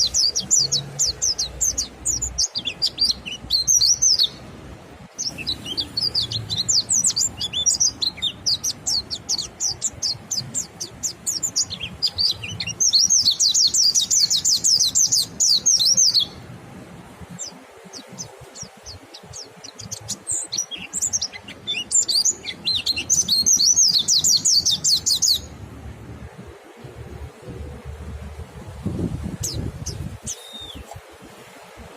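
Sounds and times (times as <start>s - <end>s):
bird twittering song: 0.0s - 4.4s, 5.1s - 16.4s, 17.3s - 25.6s, 28.9s - 31.0s.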